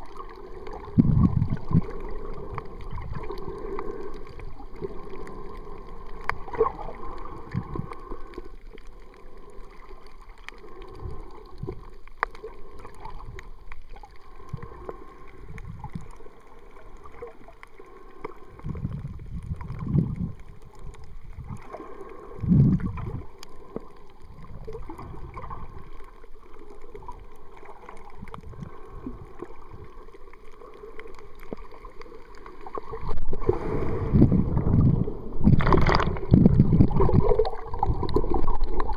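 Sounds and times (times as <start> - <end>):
faint underwater clicks: 0.0 - 38.9
underwater wash of water: 0.0 - 38.9
water surges: 0.0 - 38.9.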